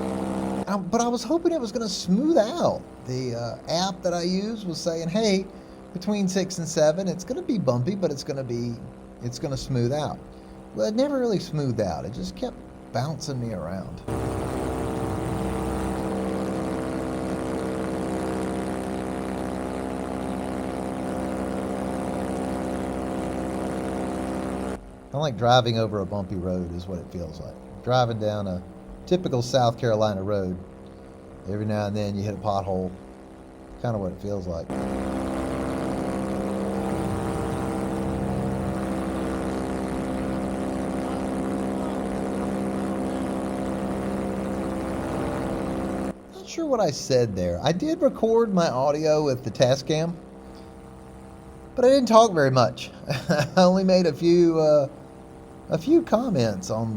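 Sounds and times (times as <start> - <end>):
paramotor engine and propeller running: 0.0 - 56.9.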